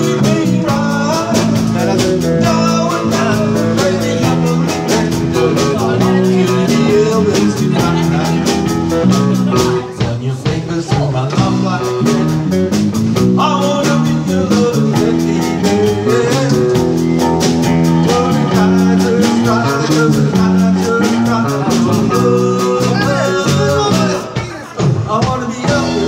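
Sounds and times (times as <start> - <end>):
live band playing: 0.0 - 26.0
man singing: 0.0 - 26.0.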